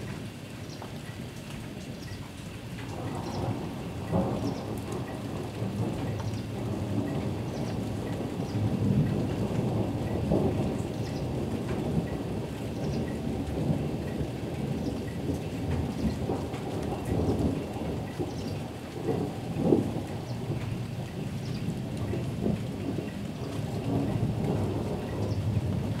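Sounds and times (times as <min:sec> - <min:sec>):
rain: 0:00.0 - 0:26.0
thunder rumbling: 0:02.8 - 0:26.0.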